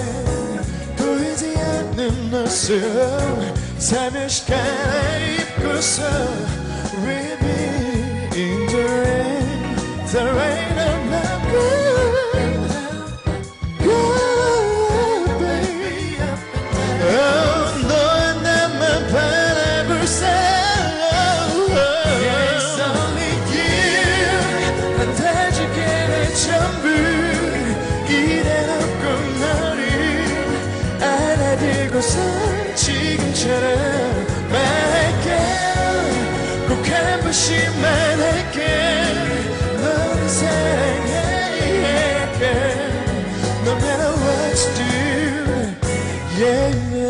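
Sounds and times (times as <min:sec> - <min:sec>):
band accompaniment: 0:00.0 - 0:47.0
man singing a pop ballad: 0:00.0 - 0:47.0.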